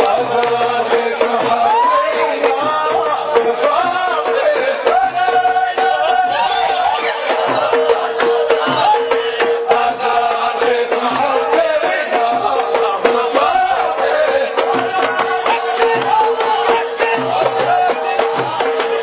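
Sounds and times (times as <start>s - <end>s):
men chanting: 0.0s - 19.0s.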